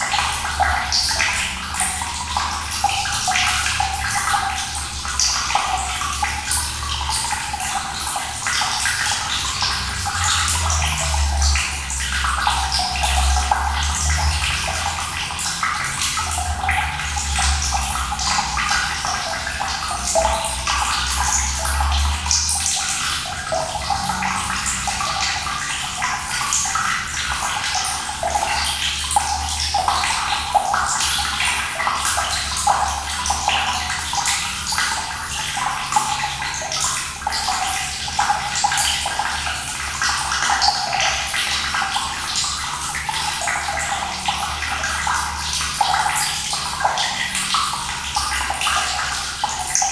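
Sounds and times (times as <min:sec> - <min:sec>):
running water splashing: 0:00.0 - 0:49.9.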